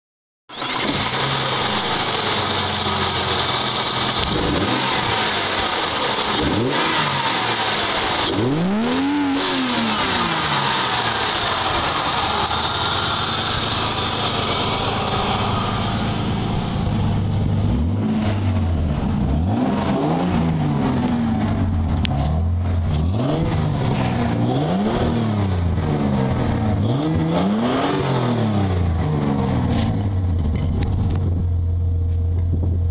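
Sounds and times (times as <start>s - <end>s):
car engine revving: 0.5s - 31.6s.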